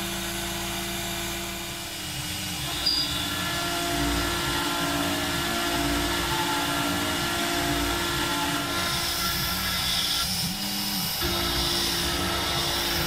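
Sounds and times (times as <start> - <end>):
power tool running: 0.0 - 13.0.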